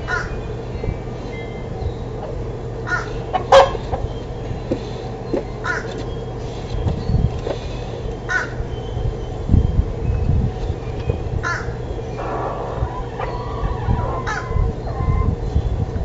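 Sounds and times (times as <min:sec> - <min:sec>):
harsh bird calls: 0:00.0 - 0:16.0
low hum: 0:00.0 - 0:16.0
low rumbling: 0:00.0 - 0:16.0.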